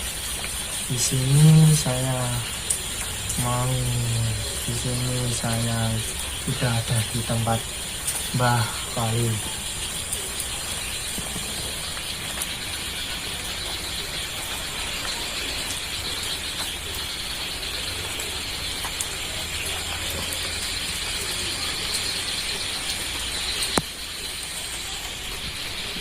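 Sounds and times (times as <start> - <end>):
high-pitched buzzing chirring: 0.0 - 24.6.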